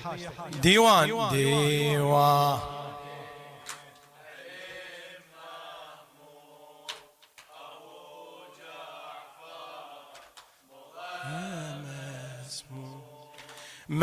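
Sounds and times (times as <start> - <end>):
group chanting a refrain: 0.0 - 13.9.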